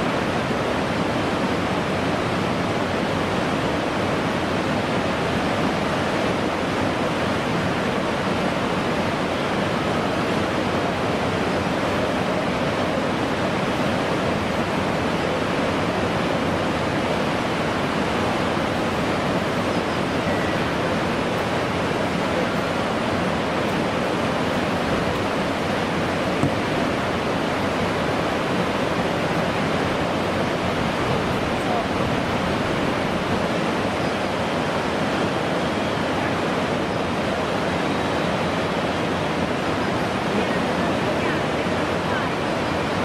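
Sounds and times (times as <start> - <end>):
whitewater rapids rushing: 0.0 - 43.0.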